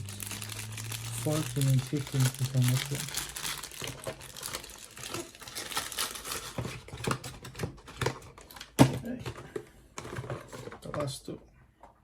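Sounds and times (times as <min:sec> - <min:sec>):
packaging rustling: 0:00.0 - 0:11.1.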